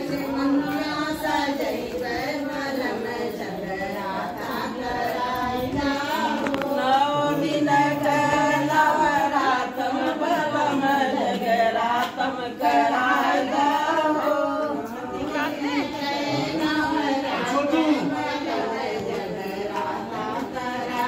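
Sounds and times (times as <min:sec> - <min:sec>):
people clapping along: 0:00.0 - 0:21.0
women singing together: 0:00.0 - 0:21.0.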